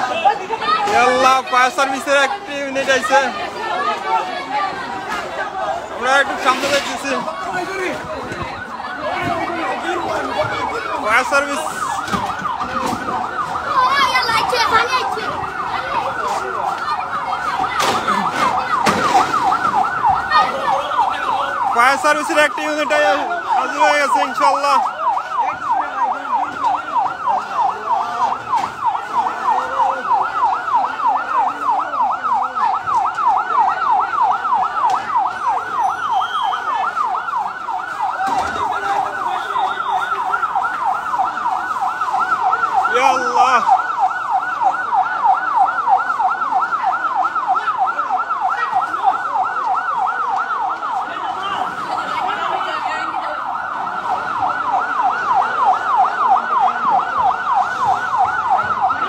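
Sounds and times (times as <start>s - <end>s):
fire engine siren yelping: 0.0s - 59.0s.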